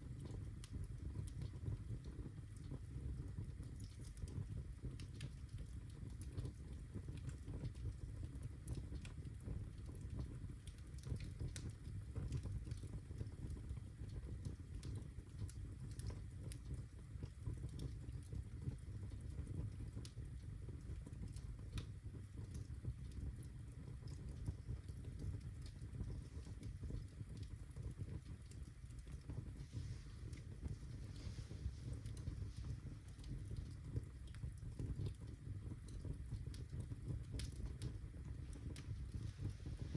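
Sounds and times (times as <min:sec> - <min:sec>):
fire crackles and pops: 0:00.0 - 0:39.9
fireplace flames rumbling: 0:00.0 - 0:39.9.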